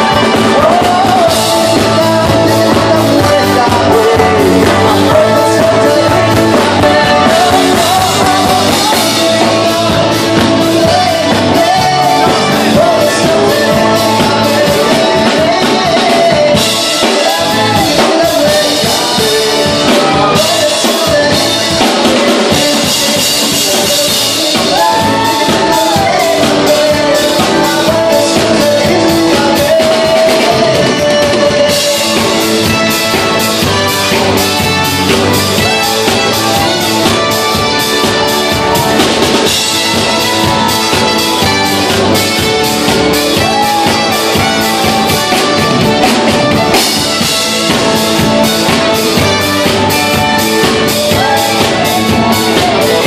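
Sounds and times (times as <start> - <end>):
drums: 0.0 - 53.0
person singing: 0.0 - 53.0
wedding dance music: 0.0 - 53.0.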